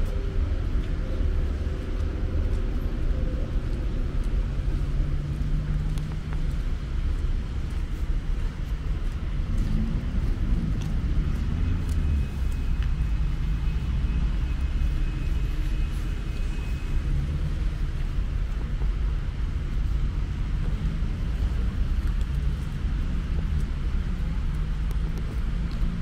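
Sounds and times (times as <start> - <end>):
tram low rumble: 0.0 - 26.0.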